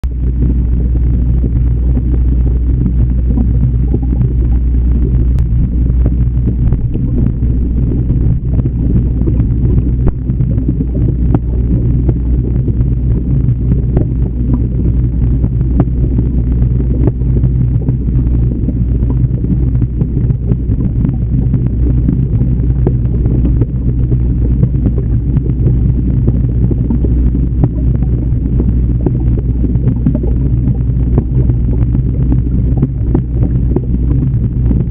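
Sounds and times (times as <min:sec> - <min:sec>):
aquarium hum and water: 0:00.0 - 0:34.9.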